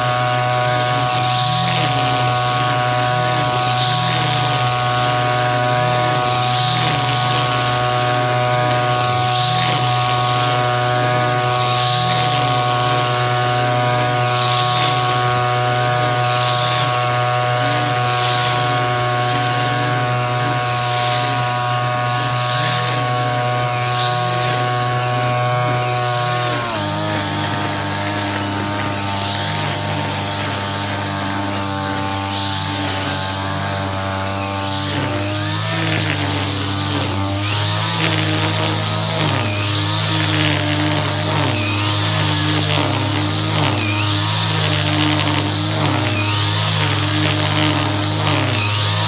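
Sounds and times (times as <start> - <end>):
brush cutter engine running: 0.0 - 49.0.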